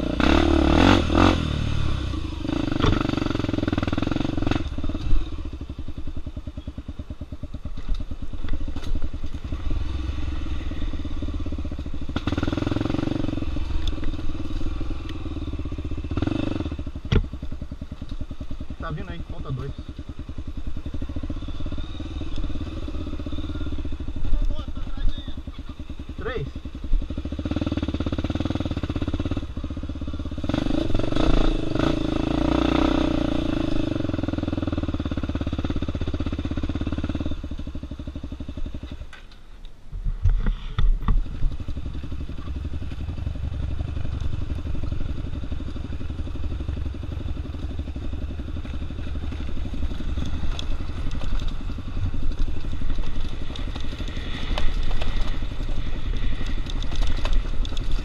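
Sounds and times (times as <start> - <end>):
dirt bike engine revving: 0.0 - 39.0, 41.2 - 58.0.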